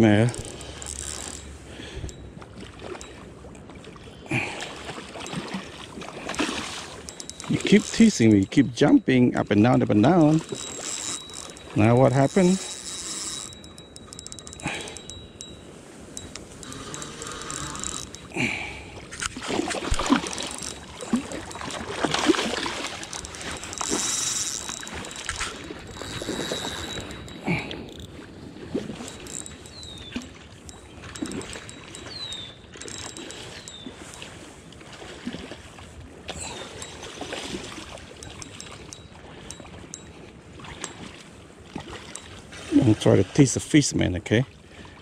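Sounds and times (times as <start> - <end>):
water sloshing and splashing: 0.0 - 45.0.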